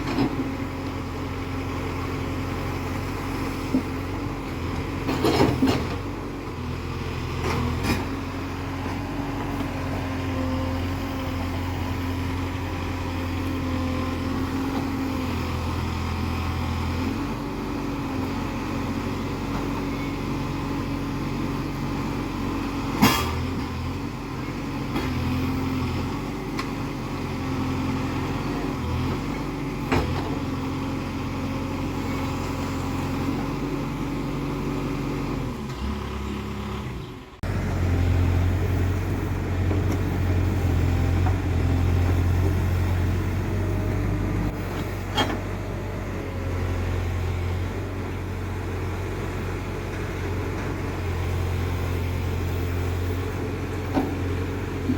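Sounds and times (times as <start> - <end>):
backhoe diesel engine running: 0.0 - 54.9.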